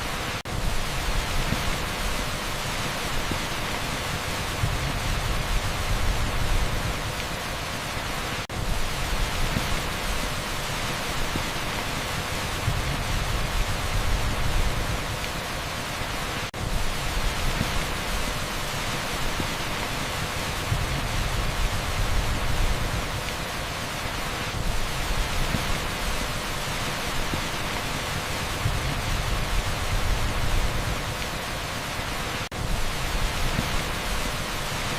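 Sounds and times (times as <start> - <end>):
heavy rain on asphalt: 0.0 - 34.9
pink noise: 0.0 - 34.9.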